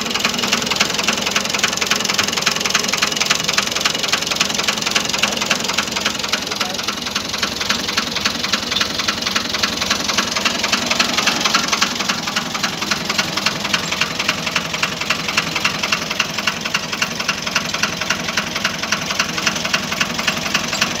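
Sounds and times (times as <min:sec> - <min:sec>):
diesel tractor engine idling: 0:00.0 - 0:21.0.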